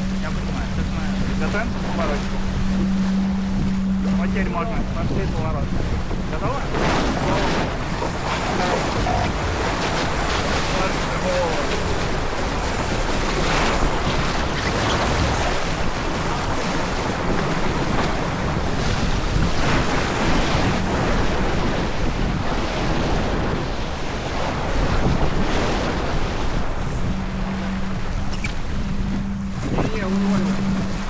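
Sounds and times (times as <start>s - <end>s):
water rushing along hull: 0.0s - 31.0s
wind buffeting microphone: 0.0s - 31.0s.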